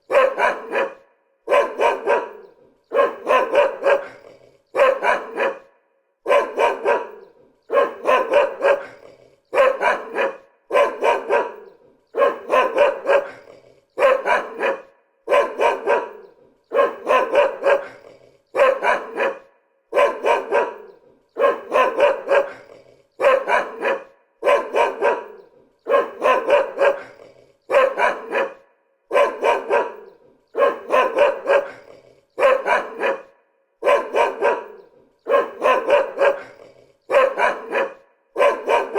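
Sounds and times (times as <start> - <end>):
dog barking: 0.0 - 38.9.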